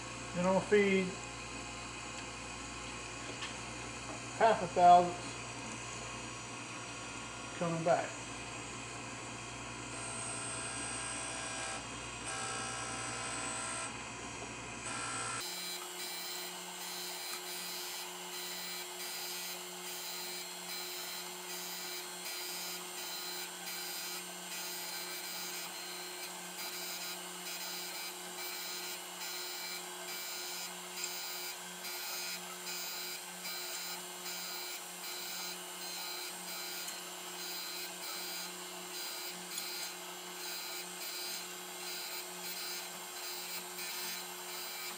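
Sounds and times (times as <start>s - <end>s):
grinder motor hum: 0.0s - 44.9s.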